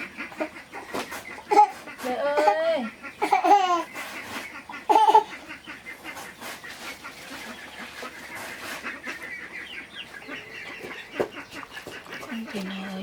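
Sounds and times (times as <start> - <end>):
fowl calling and clucking: 0.0 - 13.0.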